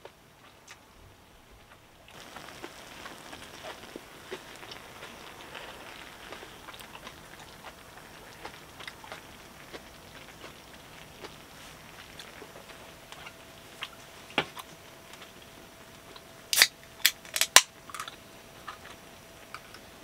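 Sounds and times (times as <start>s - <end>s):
food sizzling and bubbling in pan: 0.0s - 20.0s.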